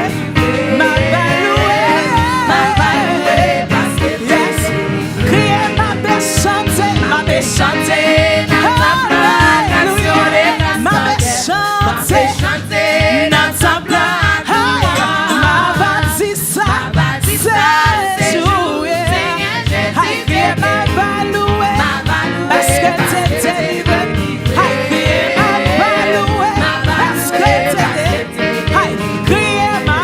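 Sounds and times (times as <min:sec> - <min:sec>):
backing singers: 0:00.0 - 0:30.0
band with steady beat: 0:00.0 - 0:30.0
lead singer: 0:00.0 - 0:30.0.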